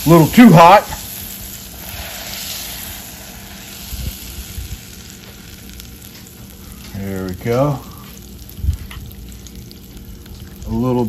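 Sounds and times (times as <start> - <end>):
butter sizzling in a saucepan: 0.0 - 11.0.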